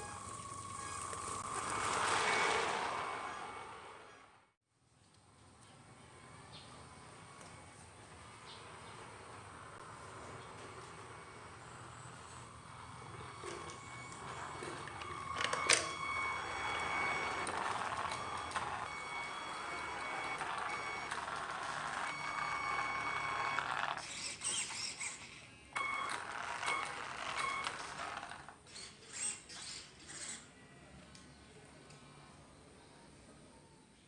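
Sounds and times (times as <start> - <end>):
electric motors and gears whining: 0.0 - 4.4, 6.3 - 30.6.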